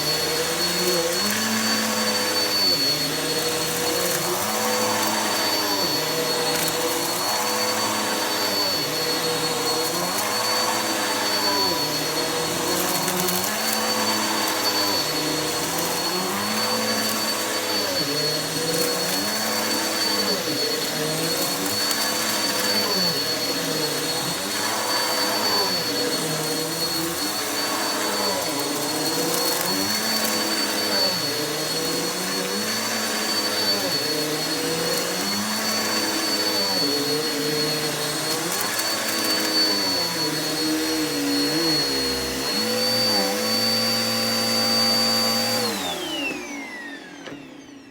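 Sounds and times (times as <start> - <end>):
vacuum cleaner whining: 0.0 - 47.9.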